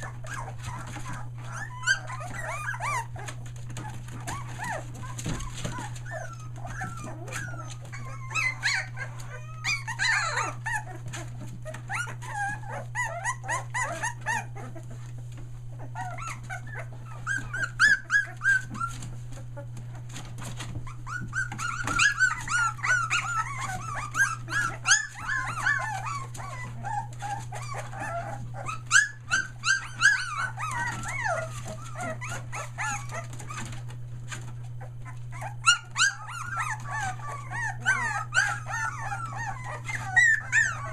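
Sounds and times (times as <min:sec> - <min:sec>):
puppies crying and yipping: 0:00.0 - 0:40.9.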